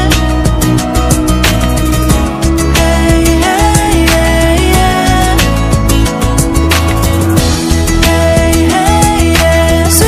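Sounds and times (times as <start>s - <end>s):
pop music with steady beat: 0.0s - 10.0s.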